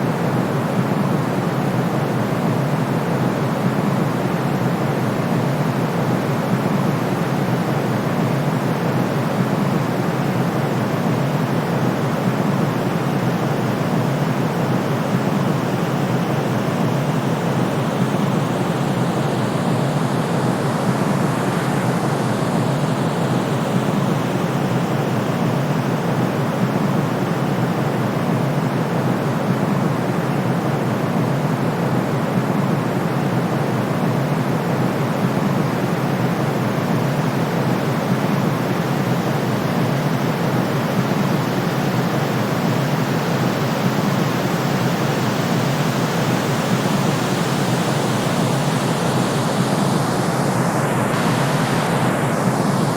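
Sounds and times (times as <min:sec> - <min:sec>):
white noise hiss: 0:00.0 - 0:52.9.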